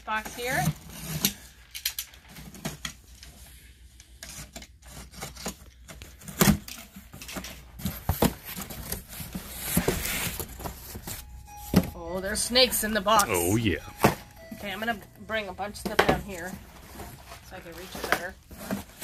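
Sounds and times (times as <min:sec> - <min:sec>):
cardboard and packaging rustling: 0:00.1 - 0:12.4, 0:13.0 - 0:19.0.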